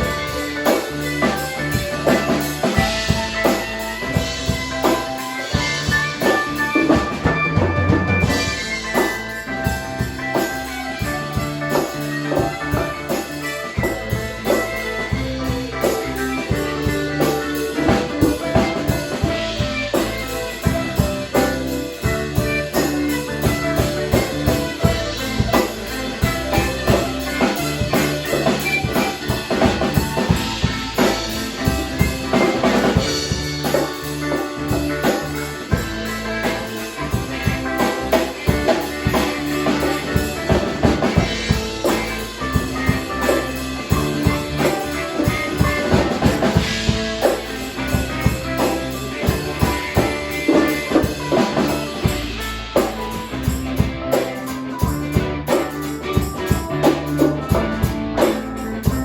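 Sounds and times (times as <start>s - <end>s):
bass line: 0.0s - 59.0s
drum kit beat: 0.0s - 59.0s.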